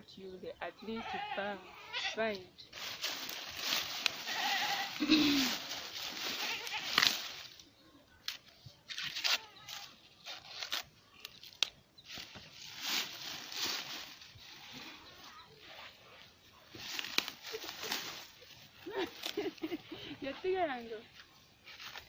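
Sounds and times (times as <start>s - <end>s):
maize leaves rustling and crunching: 1.9s - 22.0s.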